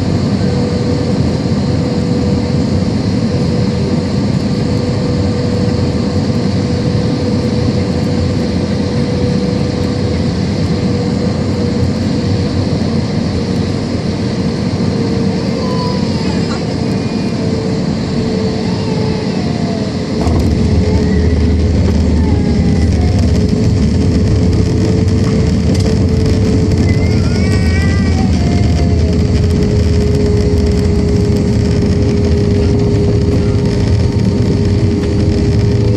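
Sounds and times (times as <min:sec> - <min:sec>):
deep engine rumble: 0:00.0 - 0:35.9
jet engine whine: 0:00.0 - 0:35.9.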